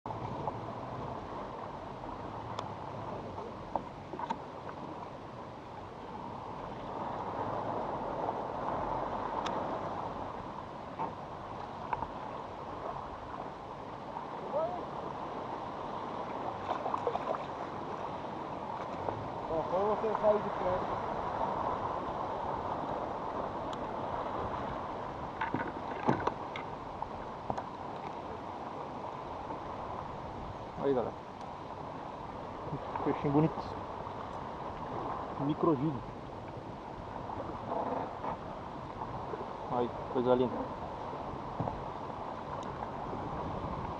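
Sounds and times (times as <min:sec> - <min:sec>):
wind: 0:00.0 - 0:43.9
rushing water noise: 0:00.1 - 0:43.9.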